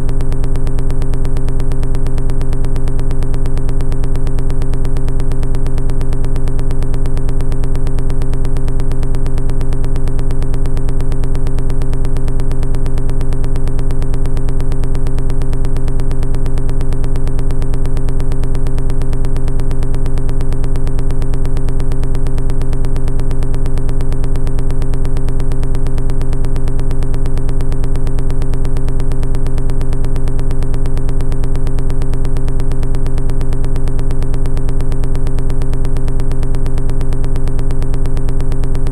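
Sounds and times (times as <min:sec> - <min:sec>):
synthesizer drone with fast pulse: 0:00.0 - 0:38.9.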